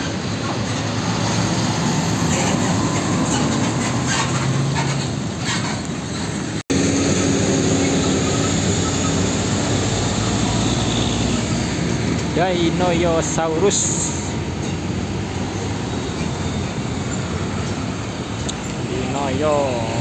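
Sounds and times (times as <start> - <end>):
trailer rattling over road: 0.0 - 20.0
truck engine drone in traffic: 0.0 - 20.0
diesel truck driving past: 0.1 - 5.4, 6.0 - 20.0.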